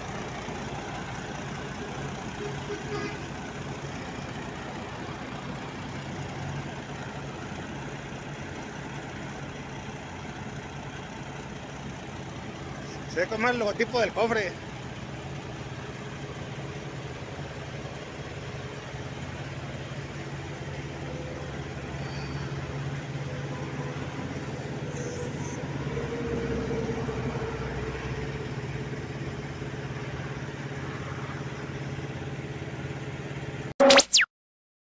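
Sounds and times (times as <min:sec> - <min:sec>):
truck diesel engine idling: 0:00.0 - 0:33.7.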